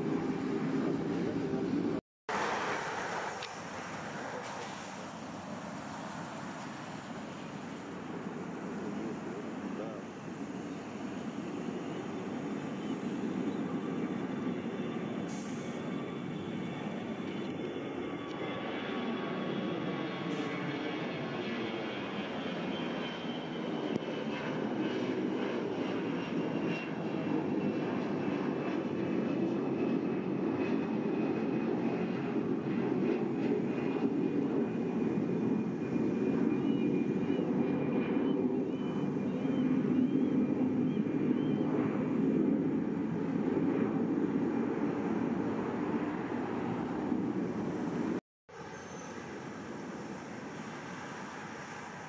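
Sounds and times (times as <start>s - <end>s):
high engine whine: 0.0s - 29.4s, 30.5s - 52.0s
jet engines rumbling: 0.0s - 52.0s.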